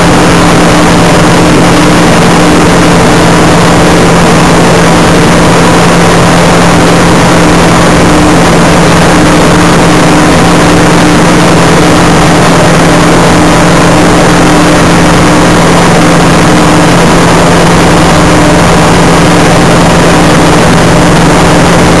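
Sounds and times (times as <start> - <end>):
aircraft engine and propeller: 0.0 - 22.0.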